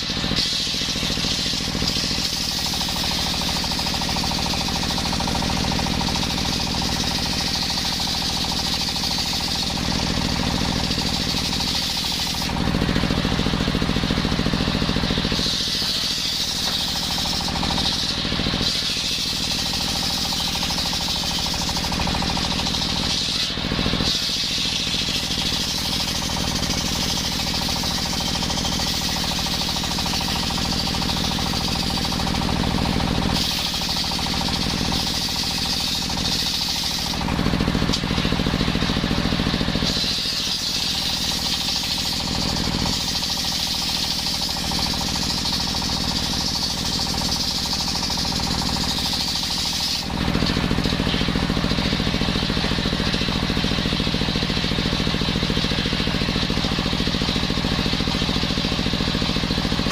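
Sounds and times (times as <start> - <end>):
circular saw cutting wood: 0.0 - 59.9.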